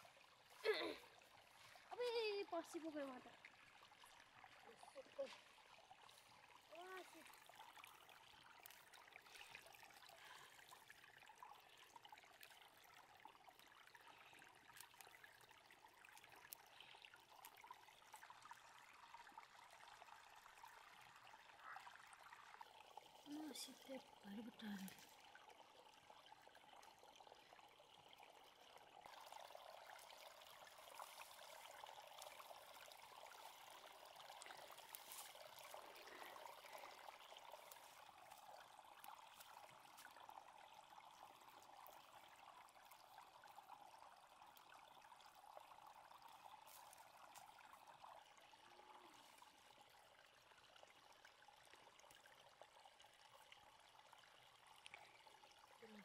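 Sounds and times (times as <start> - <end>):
faint running water: 0.0 - 56.0.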